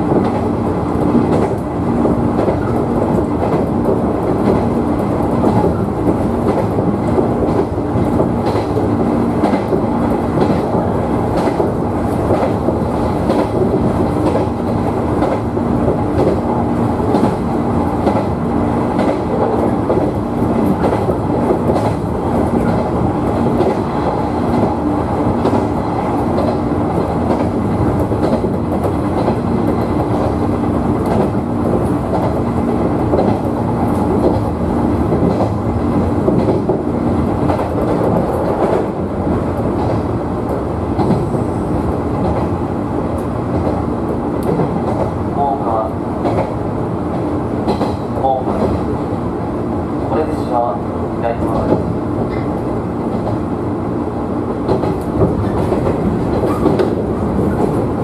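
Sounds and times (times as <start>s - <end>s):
train wheels rumbling on rail: 0.0s - 58.0s
rail-joint clicks: 0.1s - 16.4s, 17.1s - 18.3s, 18.9s - 24.8s, 25.4s - 30.4s, 31.0s - 39.0s, 39.6s - 41.4s, 42.2s - 48.9s, 51.4s - 53.4s, 54.6s - 57.9s.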